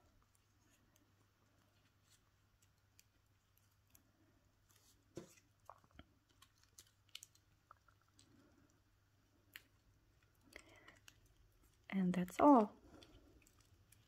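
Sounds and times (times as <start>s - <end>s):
hands wrapping floral tape: 0.0s - 14.0s.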